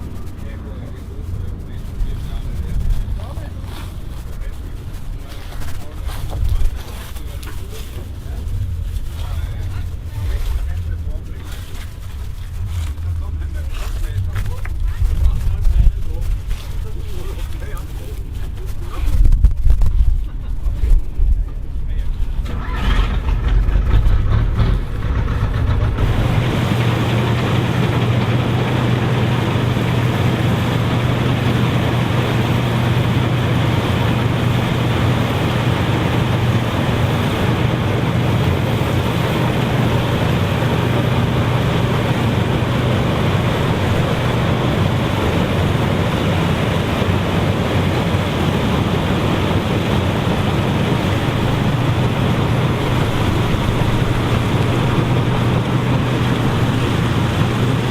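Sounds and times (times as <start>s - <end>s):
broad rushing noise: 0.0s - 57.9s
combine harvester working: 0.0s - 57.9s.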